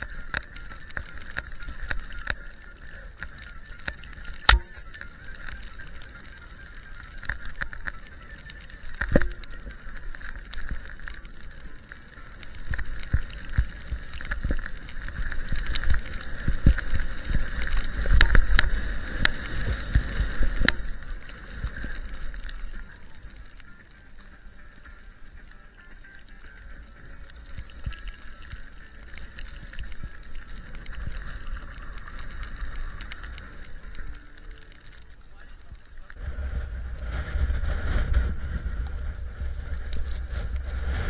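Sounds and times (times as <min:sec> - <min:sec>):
wind buffeting microphone: 0:00.0 - 0:34.5, 0:36.1 - 0:41.0
skis swishing through snow: 0:00.0 - 0:41.0.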